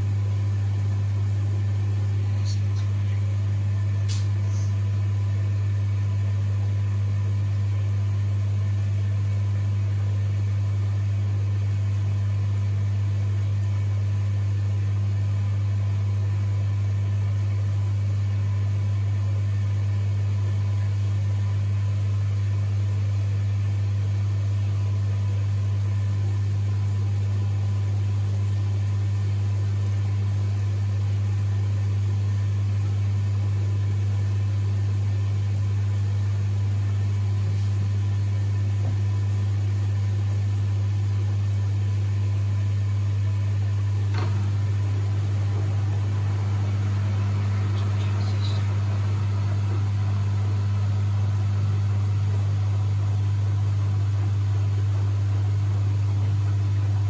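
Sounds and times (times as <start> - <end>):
washing machine drain pump humming: 0.0 - 57.0.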